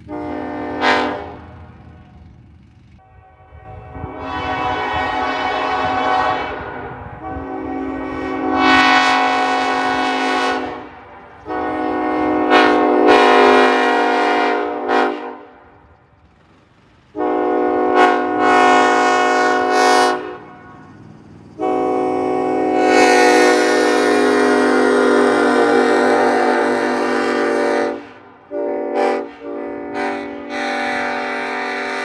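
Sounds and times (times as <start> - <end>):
train horn chord blasts: 0.0 - 1.8, 3.0 - 15.7, 17.2 - 21.0, 21.6 - 32.0.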